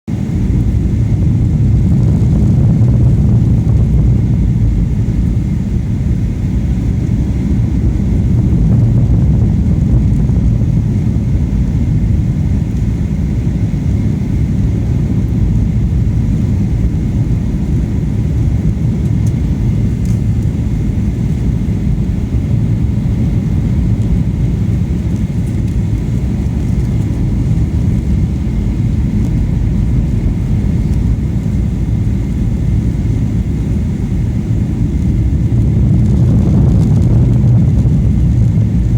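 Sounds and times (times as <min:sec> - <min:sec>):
airliner cabin engine rumble: 0:00.1 - 0:38.9.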